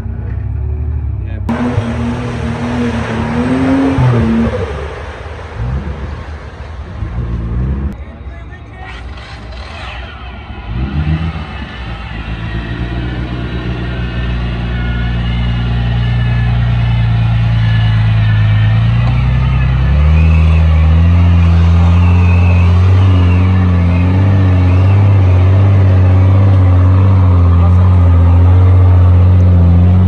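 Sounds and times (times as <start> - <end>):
engine running at high revs: 1.5 - 8.0, 9.0 - 30.0.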